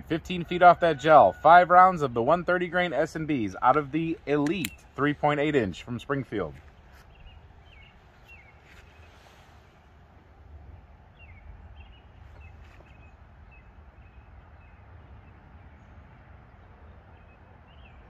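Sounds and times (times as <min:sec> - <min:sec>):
small birds chirping: 0:02.2 - 0:09.9, 0:11.0 - 0:18.0.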